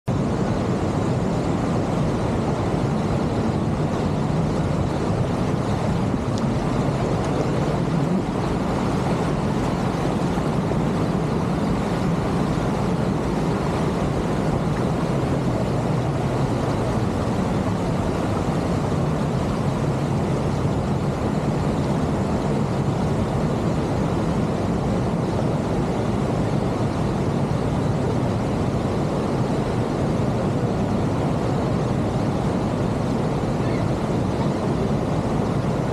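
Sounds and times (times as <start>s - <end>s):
waterfall rushing: 1.2s - 35.9s.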